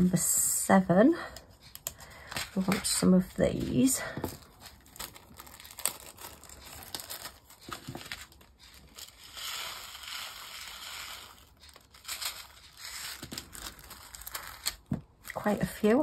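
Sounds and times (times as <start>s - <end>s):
plastic bag crinkling: 2.0s - 15.8s.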